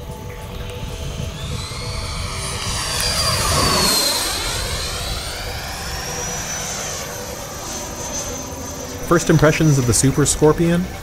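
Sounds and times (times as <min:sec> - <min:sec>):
electric ducted fan jet whine: 0:00.0 - 0:11.0.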